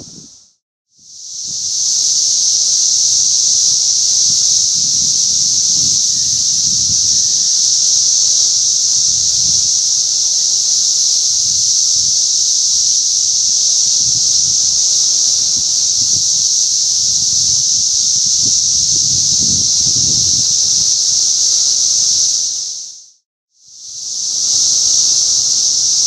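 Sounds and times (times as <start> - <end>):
wind rumble on microphone: 0.0 - 0.4, 1.4 - 22.8
cicadas droning: 0.0 - 26.0.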